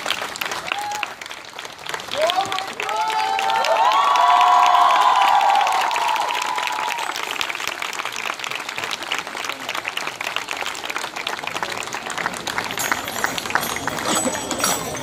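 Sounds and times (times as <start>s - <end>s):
audience applauding: 0.0s - 15.0s
crowd cheering: 0.0s - 15.0s.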